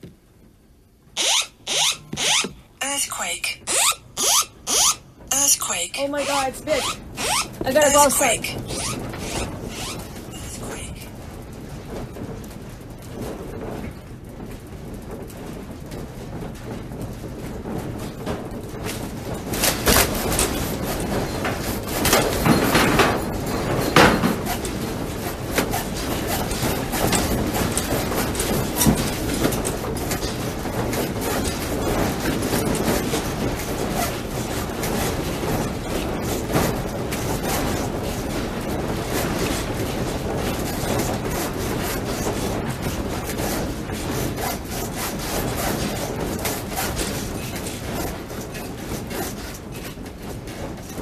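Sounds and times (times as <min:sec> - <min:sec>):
wooden room creaking and rattling: 0:00.0 - 0:02.8, 0:03.5 - 0:05.4, 0:06.0 - 0:51.0
sliding doors and fittings clattering: 0:06.3 - 0:10.4, 0:11.1 - 0:51.0.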